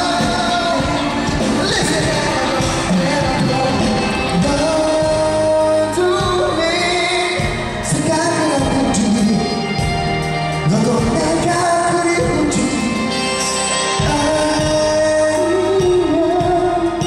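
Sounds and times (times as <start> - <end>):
loud backing music: 0.0 - 17.0
man singing into a microphone: 0.0 - 17.0.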